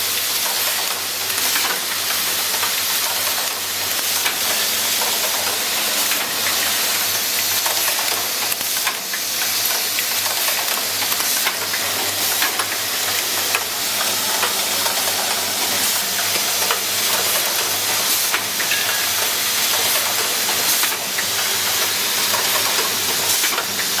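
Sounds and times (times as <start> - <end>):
machine hiss: 0.0 - 24.0.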